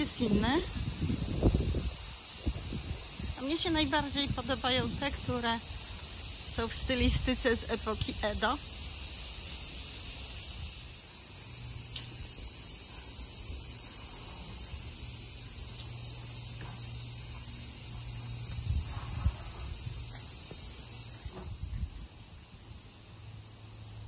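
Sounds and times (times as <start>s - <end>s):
cicadas droning: 0.0s - 24.0s.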